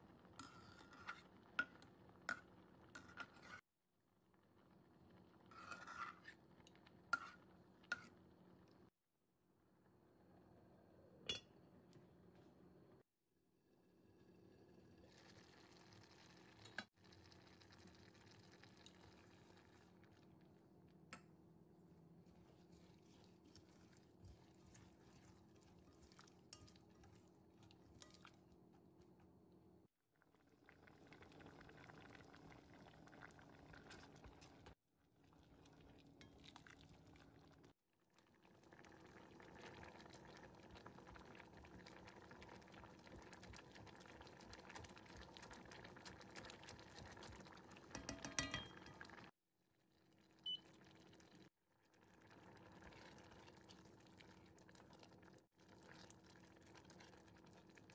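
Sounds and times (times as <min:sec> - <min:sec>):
beans bubbling in pot: 0:00.0 - 0:09.0, 0:13.9 - 0:57.9.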